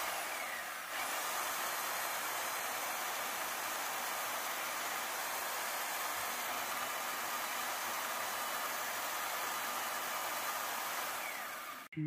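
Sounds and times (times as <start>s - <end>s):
band saw cutting steel: 0.0s - 11.9s.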